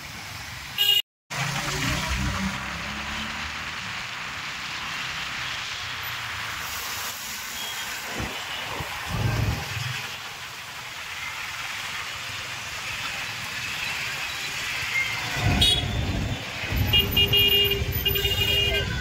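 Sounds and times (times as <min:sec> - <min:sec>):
traffic hiss: 0:00.0 - 0:19.0.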